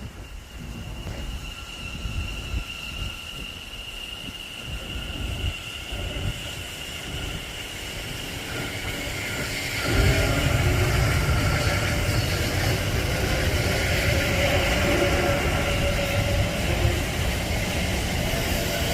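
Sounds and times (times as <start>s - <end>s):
train high whine: 0.0s - 18.9s
train rumble: 0.0s - 18.9s.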